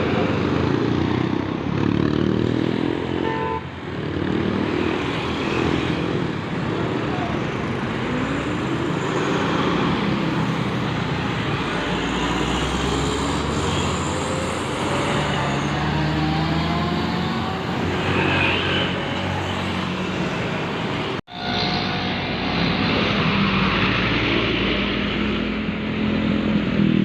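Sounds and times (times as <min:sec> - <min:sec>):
road traffic engines and tyres: 0:00.0 - 0:27.0.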